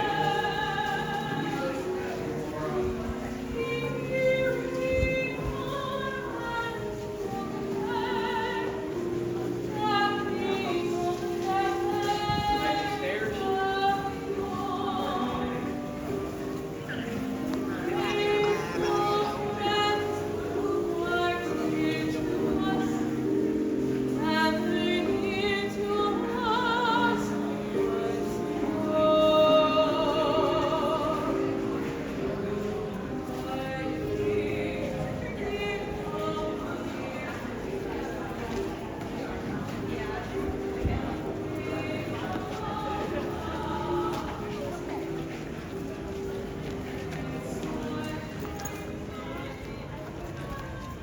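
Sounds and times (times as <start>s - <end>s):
operatic singing with vibrato: 0.0s - 16.2s, 17.6s - 45.2s.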